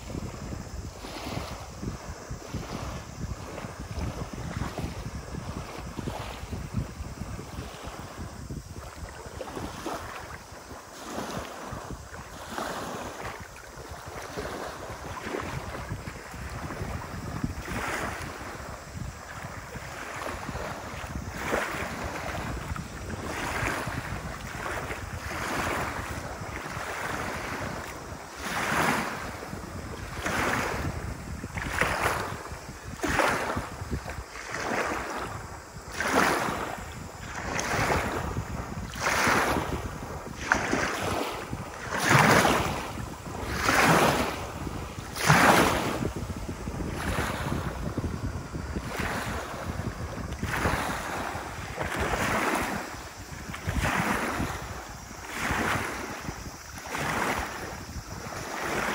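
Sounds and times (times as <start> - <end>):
waves lapping on pebble shore: 0.0 - 58.9
wind rumbling on microphone: 0.0 - 58.9.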